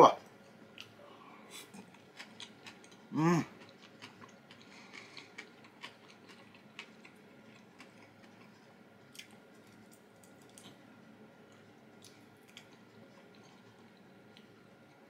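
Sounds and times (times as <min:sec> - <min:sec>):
chewing: 0:00.5 - 0:10.8, 0:11.5 - 0:15.0.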